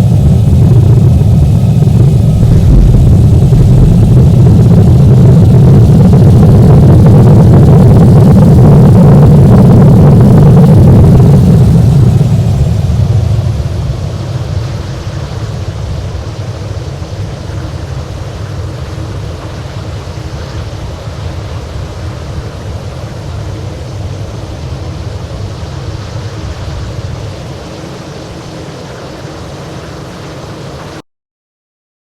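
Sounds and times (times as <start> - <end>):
jet engine and runway rumble: 0.0 - 31.0.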